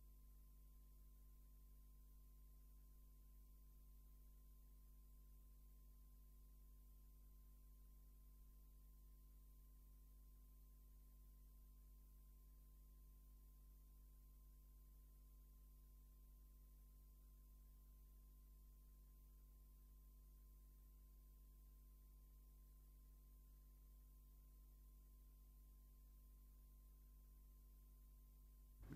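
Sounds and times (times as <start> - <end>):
faint steady tone: 0.0 - 28.9.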